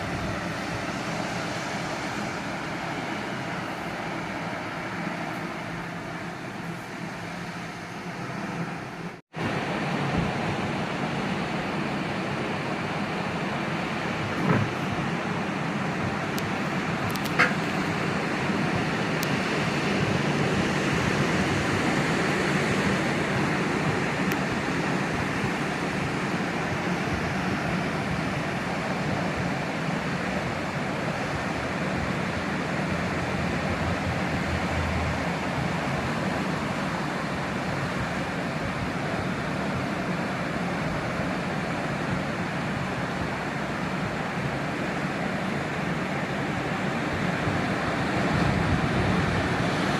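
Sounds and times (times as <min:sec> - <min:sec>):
surf washing on shore: 0:00.0 - 0:49.9.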